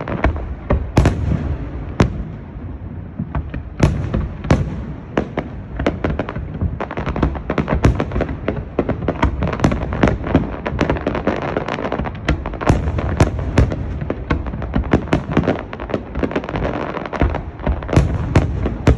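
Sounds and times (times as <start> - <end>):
fireworks bangs: 0.0 - 18.9.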